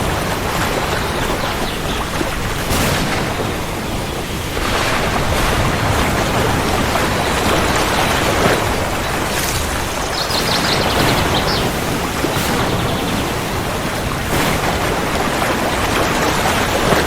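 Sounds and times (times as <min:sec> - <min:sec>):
heavy rain falling: 0:00.0 - 0:17.0
low thunder rumble: 0:00.0 - 0:17.0.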